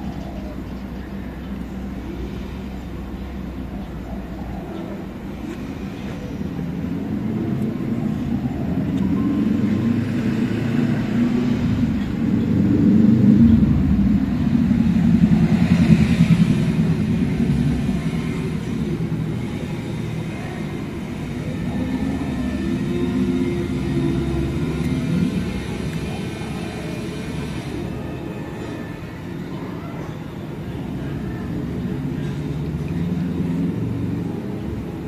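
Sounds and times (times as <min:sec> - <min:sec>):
vehicle engine rumble: 0:00.0 - 0:35.0.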